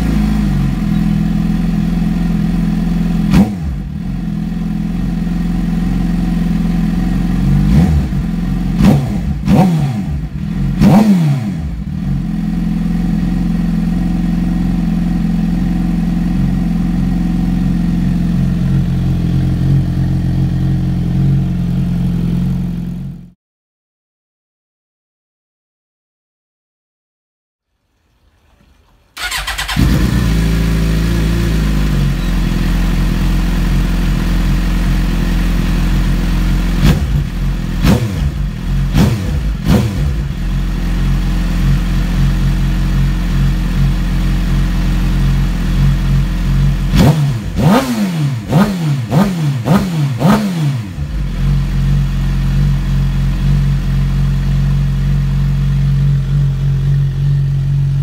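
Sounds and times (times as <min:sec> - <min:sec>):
motorcycle engine throttle blips: 0:00.0 - 0:23.2, 0:29.2 - 0:58.0
motorcycle engine starting and idling: 0:00.0 - 0:23.4, 0:29.1 - 0:58.0.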